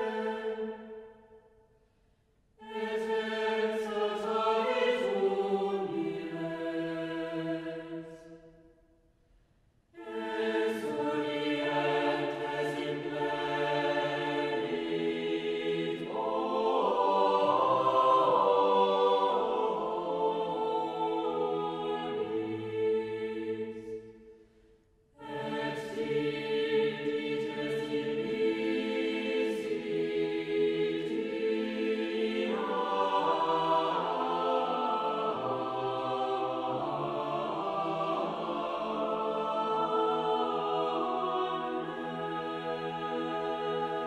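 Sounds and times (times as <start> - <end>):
choir singing a chant: 0.0 - 1.2, 2.6 - 8.6, 10.0 - 24.4, 25.2 - 44.0.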